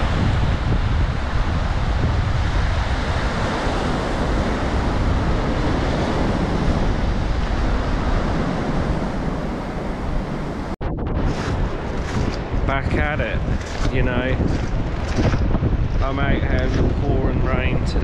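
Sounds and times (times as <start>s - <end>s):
surf breaking on beach: 0.0s - 17.9s
wind buffeting microphone: 0.0s - 18.0s.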